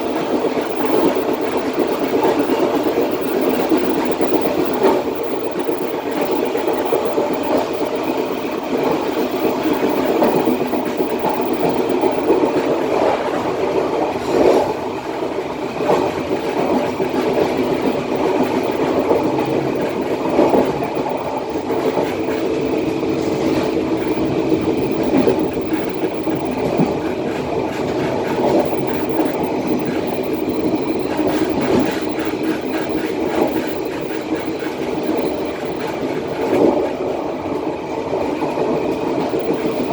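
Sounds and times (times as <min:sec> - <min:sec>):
train wheels running on rails: 0:00.0 - 0:39.9.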